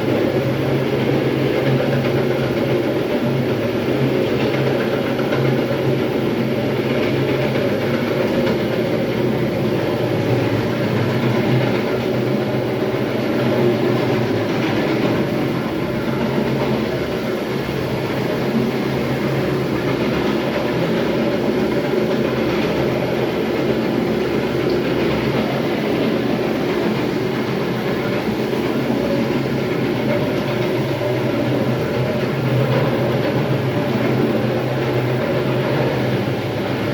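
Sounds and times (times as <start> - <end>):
floor grinding machine: 0.0 - 36.9.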